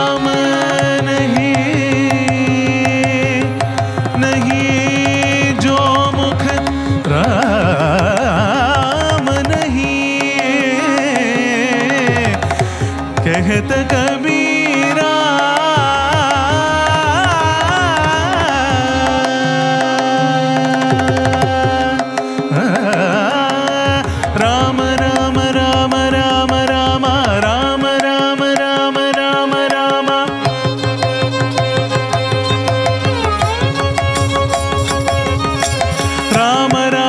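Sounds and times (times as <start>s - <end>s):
harmonium: 0.0s - 37.0s
person singing: 0.0s - 37.0s
violin melody: 0.0s - 37.0s.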